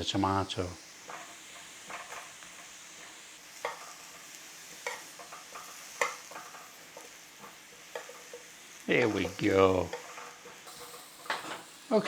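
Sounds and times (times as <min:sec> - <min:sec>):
tomatoes sizzling in a hot pan: 0:00.0 - 0:12.0.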